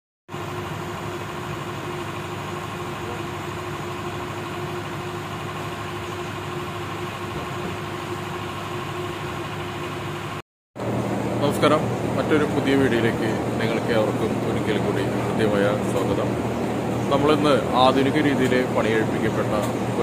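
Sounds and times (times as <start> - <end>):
steady machine hum: 0.3 - 20.0.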